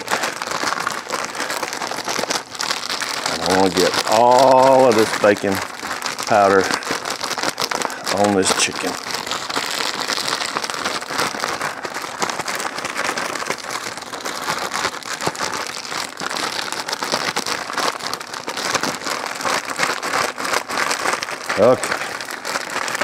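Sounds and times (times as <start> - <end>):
chicken wings tumbling in bag: 0.0 - 23.0
plastic bag crinkling and rustling: 0.0 - 23.0.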